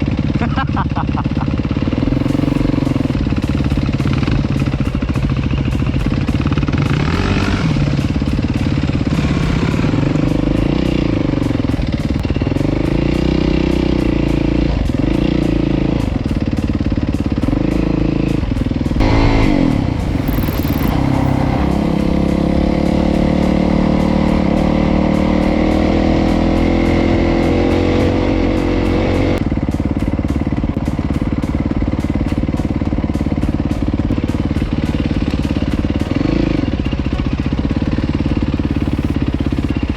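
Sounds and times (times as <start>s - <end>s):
dirt bike engine revving: 0.0s - 29.7s, 37.3s - 39.9s.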